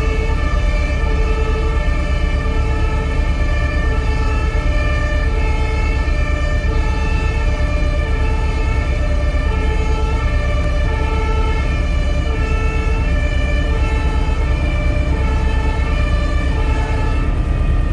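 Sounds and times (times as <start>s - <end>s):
low rumble: 0.0s - 17.9s
two-tone siren: 0.0s - 17.9s.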